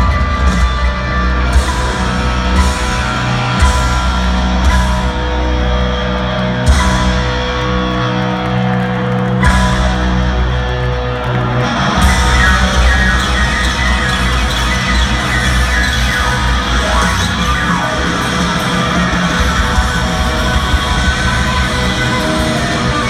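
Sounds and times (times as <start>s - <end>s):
bass: 0.0s - 23.0s
drums: 0.0s - 23.0s
electric guitar: 0.0s - 23.0s.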